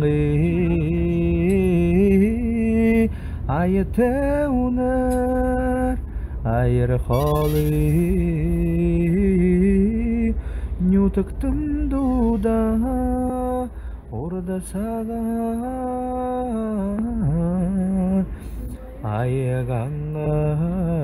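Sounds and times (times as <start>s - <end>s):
person singing slow chant-like melody: 0.0s - 21.0s.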